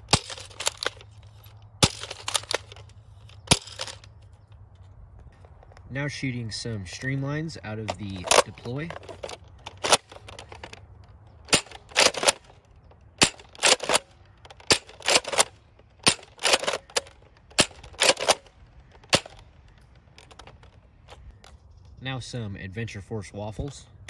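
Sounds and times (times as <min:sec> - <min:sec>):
plastic clacks of priming: 0:00.0 - 0:05.8, 0:07.8 - 0:21.6.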